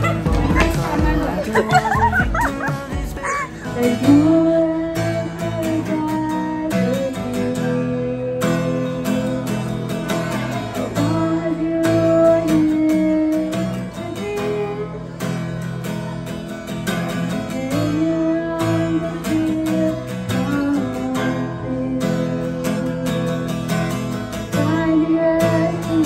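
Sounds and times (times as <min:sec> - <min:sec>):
woman singing into microphone: 0:00.0 - 0:15.4, 0:17.1 - 0:26.0
acoustic guitar strumming: 0:00.0 - 0:26.0.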